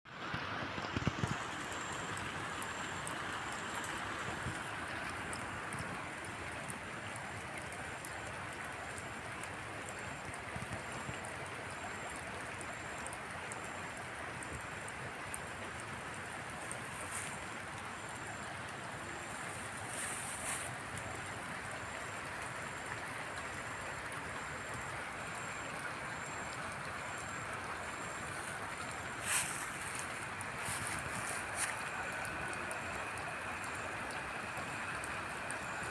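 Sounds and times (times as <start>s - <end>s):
water splashes: 0.2s - 35.9s
water rushing: 0.3s - 11.2s, 12.0s - 35.9s.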